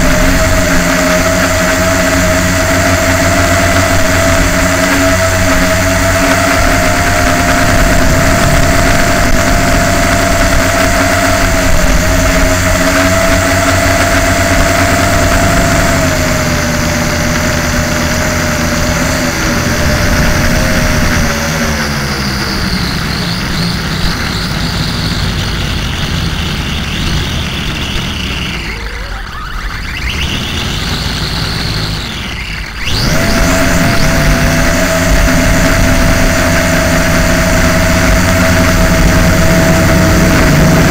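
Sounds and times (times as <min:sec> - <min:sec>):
quadcopter propellers whining: 0:00.0 - 0:40.9
rushing noise: 0:00.0 - 0:40.9.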